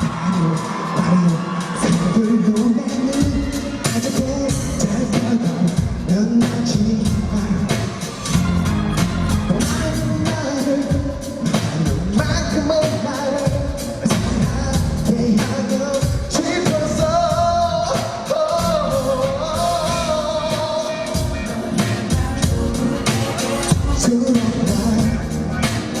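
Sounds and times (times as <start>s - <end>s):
band playing a steady beat: 0.0s - 26.0s
man singing: 0.0s - 26.0s.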